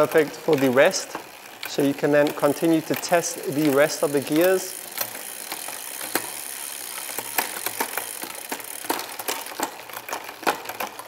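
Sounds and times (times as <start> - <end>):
bicycle chain whirring: 0.0 - 11.0
gear shifting clicks: 0.0 - 11.0.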